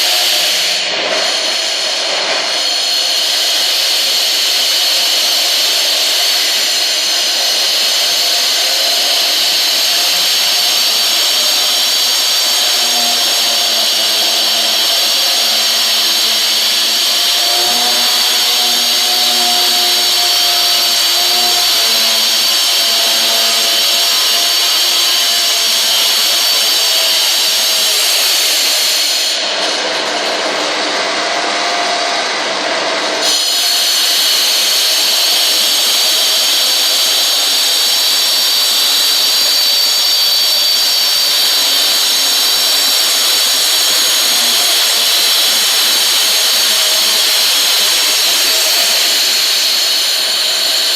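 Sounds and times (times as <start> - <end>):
vacuum drawing dust: 0.0 - 50.9.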